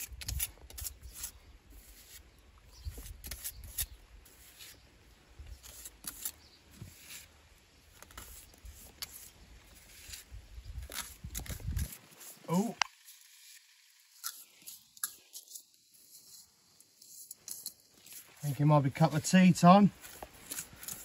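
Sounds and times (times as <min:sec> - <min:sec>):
trowel scraping mortar on stone: 0:00.0 - 0:04.8, 0:05.5 - 0:21.0.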